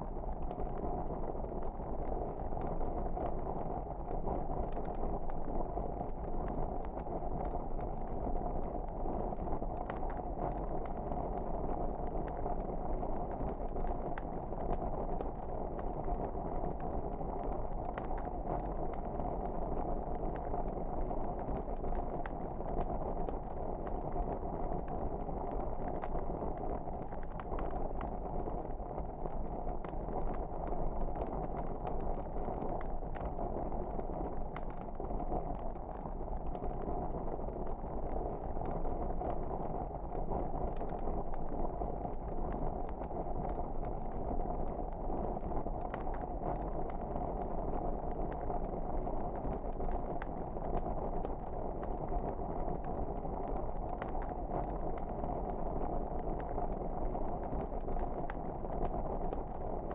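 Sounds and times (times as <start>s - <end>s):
fire crackles and pops: 0.0s - 59.9s
log fire rushing: 0.1s - 59.9s.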